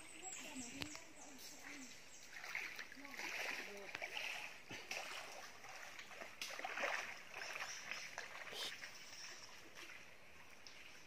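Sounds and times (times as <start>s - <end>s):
footsteps wading through stream: 0.0s - 11.0s
water sloshing and splashing: 0.1s - 11.0s.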